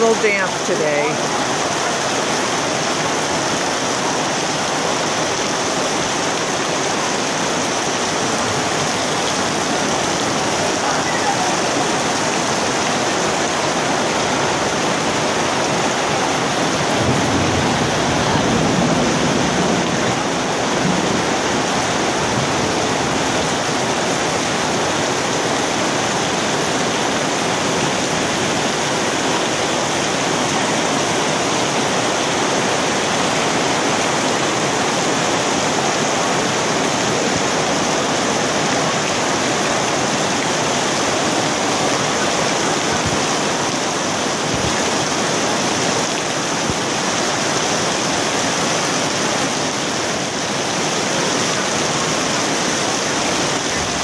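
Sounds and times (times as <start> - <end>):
heavy rain on a tent canopy: 0.0 - 54.0.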